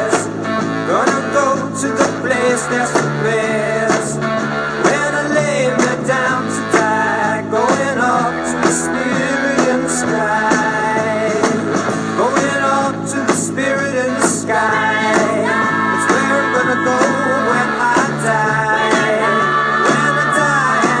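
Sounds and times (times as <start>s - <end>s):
pop-rock song with singing: 0.0s - 21.0s.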